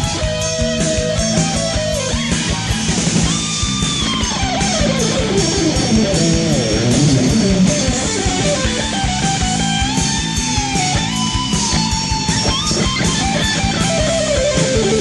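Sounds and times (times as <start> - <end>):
drums and bass: 0.0 - 15.0
electric lead guitar: 0.0 - 15.0.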